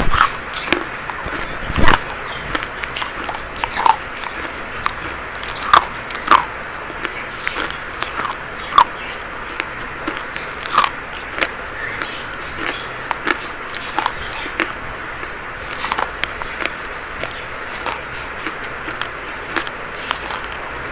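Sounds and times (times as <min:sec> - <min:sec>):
chalk being chewed: 0:00.1 - 0:20.7.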